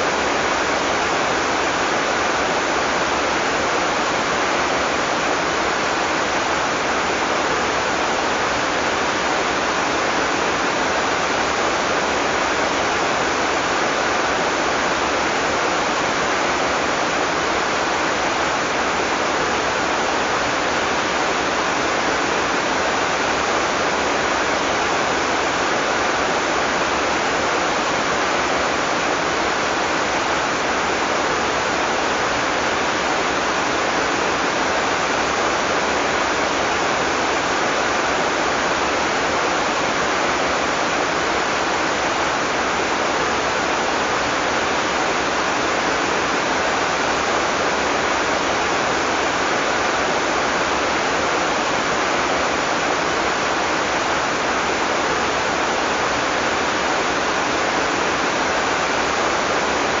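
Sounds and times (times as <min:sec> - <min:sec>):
heavy rain falling: 0:00.0 - 1:00.0.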